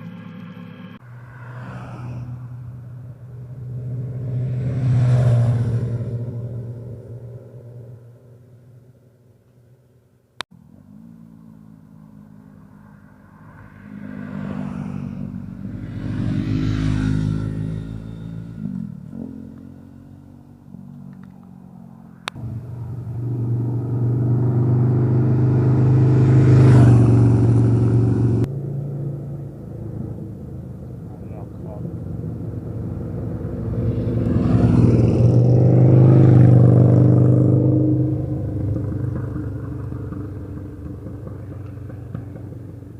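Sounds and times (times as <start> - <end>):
motorcycles riding past: 0.0 - 9.0, 10.6 - 42.9.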